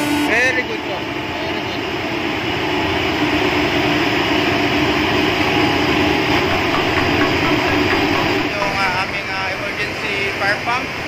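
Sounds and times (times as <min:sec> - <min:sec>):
electric pump machine drone: 0:00.0 - 0:11.0.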